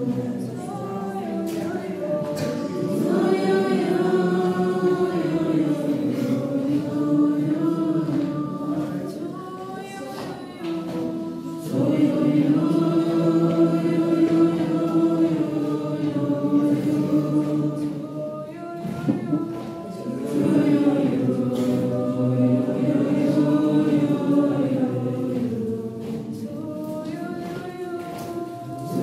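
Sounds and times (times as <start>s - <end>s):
youth choir singing: 0.0s - 29.0s.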